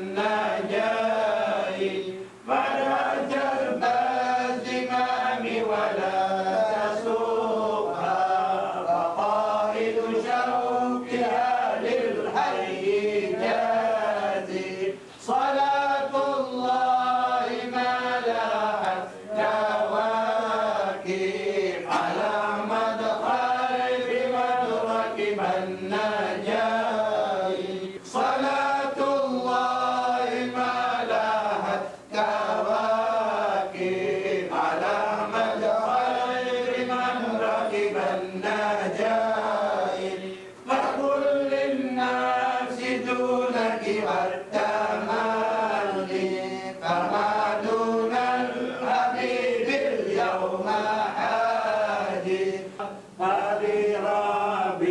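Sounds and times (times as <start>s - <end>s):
person chanting melodically: 0.0s - 54.9s.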